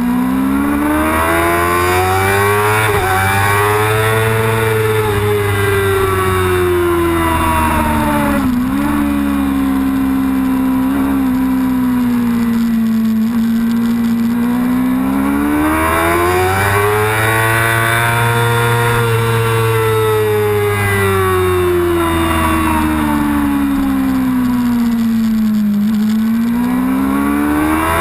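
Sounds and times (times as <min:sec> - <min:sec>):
motorcycle race engine revving: 0:00.0 - 0:28.0.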